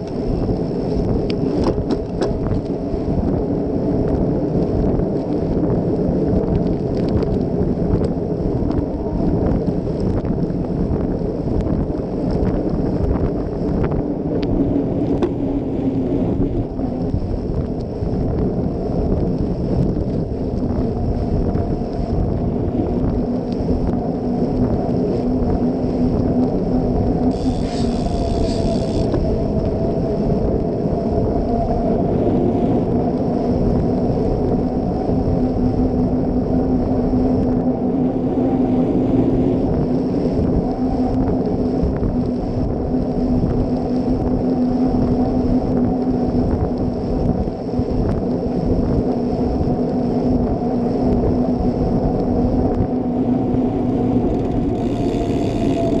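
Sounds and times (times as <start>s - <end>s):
bike tyres rolling on asphalt: 0.0s - 56.0s.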